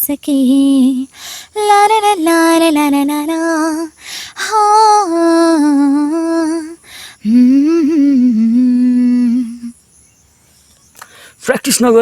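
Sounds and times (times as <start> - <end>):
woman singing wordless tune: 0.0 - 10.0.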